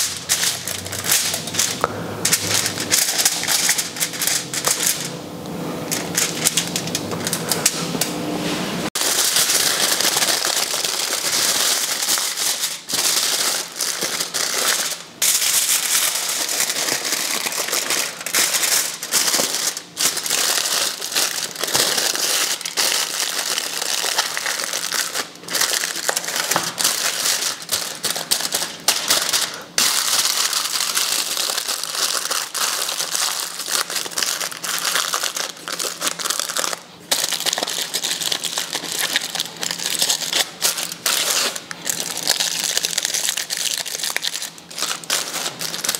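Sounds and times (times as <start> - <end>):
foil crinkling: 0.0 - 5.1, 5.9 - 7.9, 8.9 - 45.9.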